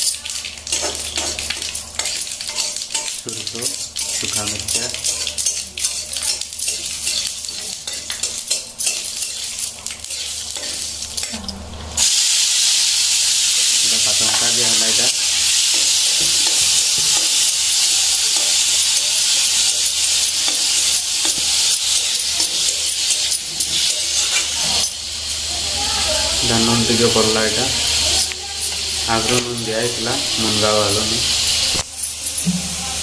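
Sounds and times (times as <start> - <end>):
metal spoon clinking in pan: 0.0 - 11.6, 15.7 - 25.4, 26.7 - 32.9
food sizzling in hot oil: 0.0 - 33.0.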